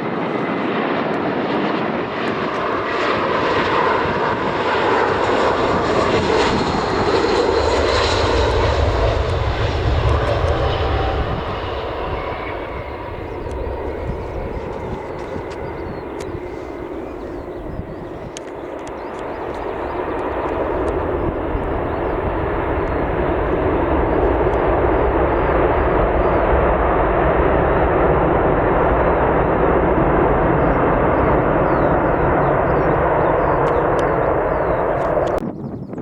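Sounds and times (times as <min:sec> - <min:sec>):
aircraft engines rushing: 0:00.0 - 0:36.0.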